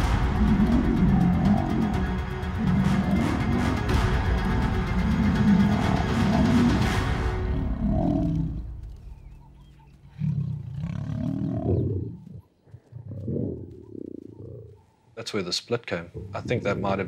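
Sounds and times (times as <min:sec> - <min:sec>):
lions snarling and growling: 0:00.0 - 0:14.9, 0:16.0 - 0:17.0.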